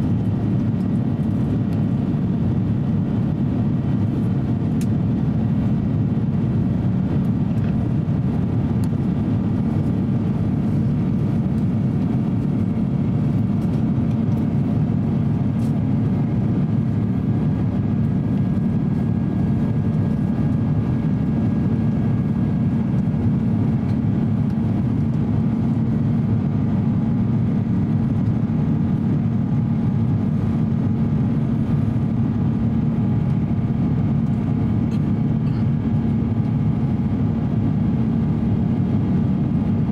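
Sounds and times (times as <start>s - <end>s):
jet engine drone and rushing air: 0.0s - 39.9s
steady hum tones: 0.0s - 39.9s.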